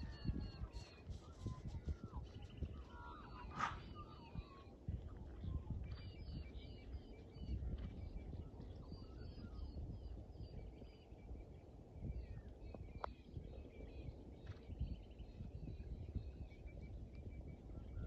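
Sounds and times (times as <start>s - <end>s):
constant low rumble: 0.0s - 18.0s
small birds chirping: 0.0s - 18.0s.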